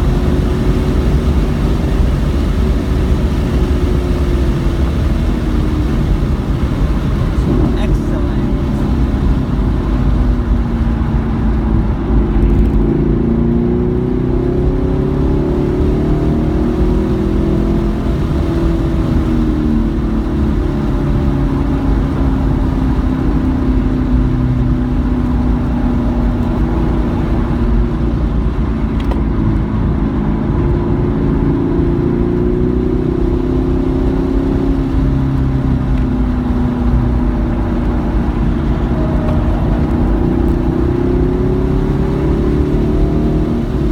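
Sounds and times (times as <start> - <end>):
car engine accelerating and slowing: 0.0 - 43.9
road and wind noise: 0.0 - 43.9.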